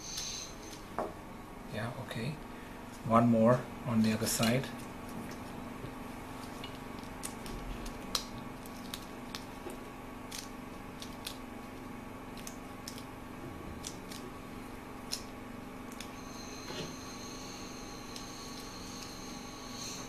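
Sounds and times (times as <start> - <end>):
steady room hum: 0.0 - 20.0.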